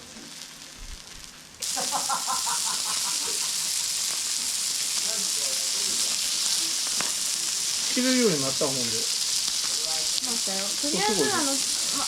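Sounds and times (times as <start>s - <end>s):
loud sizzling hiss: 0.0s - 12.0s.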